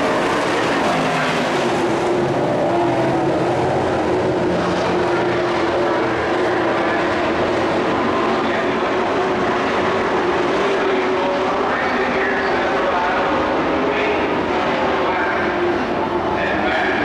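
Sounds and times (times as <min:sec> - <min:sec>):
truck engines racing: 0:00.0 - 0:17.0.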